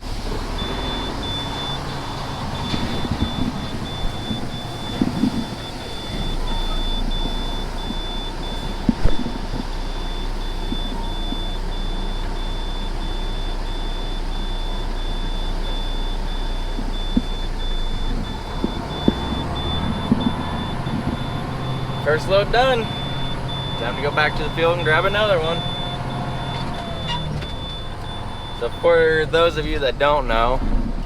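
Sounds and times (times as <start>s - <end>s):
truck engine running: 0.0s - 31.0s
high electronic beeping: 0.6s - 12.8s, 14.6s - 29.7s.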